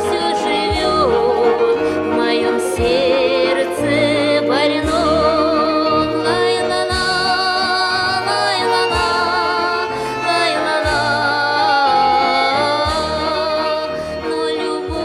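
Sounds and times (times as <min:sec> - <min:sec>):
bass line: 0:00.0 - 0:15.0
low beat: 0:00.0 - 0:15.0
slow song with singing: 0:00.0 - 0:15.0.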